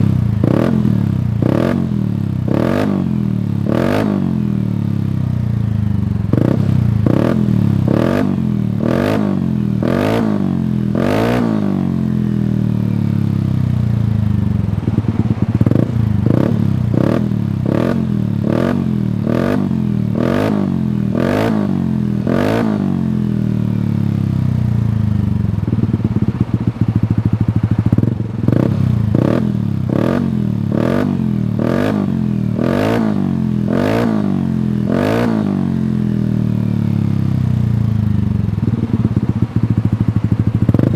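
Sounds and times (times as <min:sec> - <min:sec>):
scooter engine idling: 0:00.0 - 0:33.8, 0:35.6 - 0:40.9
scooter engine revving: 0:00.0 - 0:40.9.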